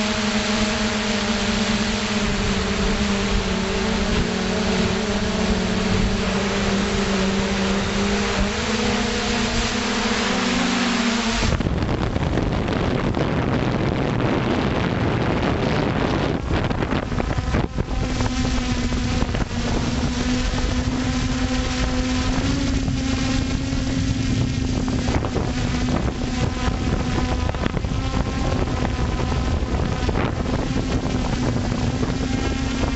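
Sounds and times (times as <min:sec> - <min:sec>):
drone motors and propellers buzzing: 0:00.0 - 0:32.9
wind noise on microphone: 0:00.0 - 0:32.9.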